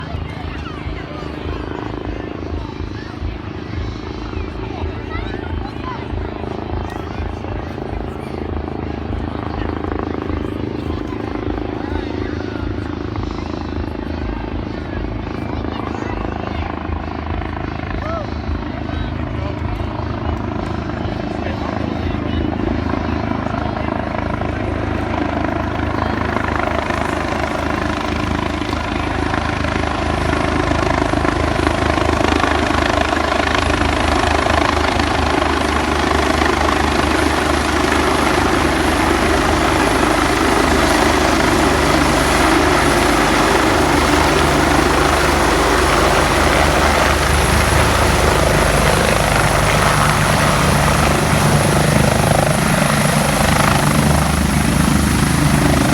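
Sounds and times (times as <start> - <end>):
helicopter rotor chop: 0.0 - 55.9.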